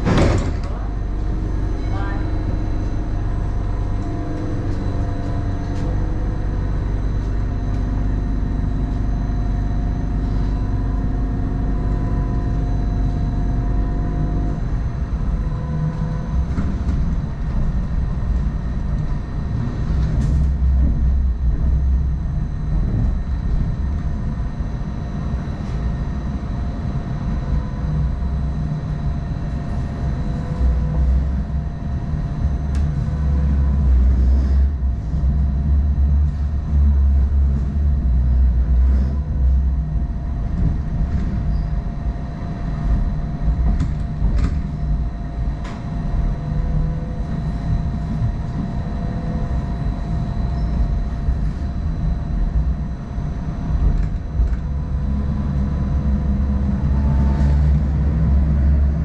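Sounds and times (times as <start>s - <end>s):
constant whine: 0.0s - 59.0s
train rumbling on track: 0.0s - 59.0s.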